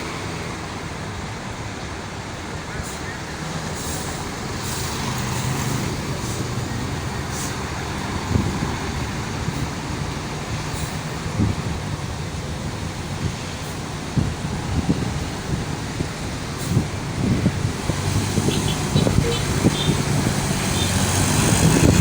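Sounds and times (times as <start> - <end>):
bus engine humming: 0.0 - 22.0
street traffic: 0.0 - 22.0.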